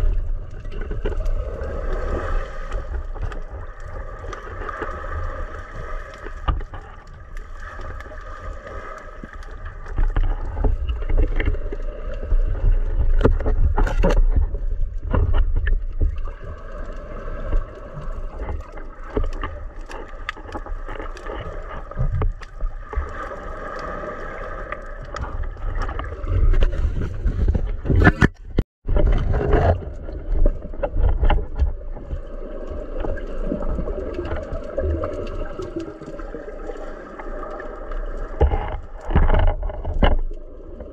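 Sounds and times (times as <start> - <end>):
underwater rumble of moving water: 0.0 - 40.9.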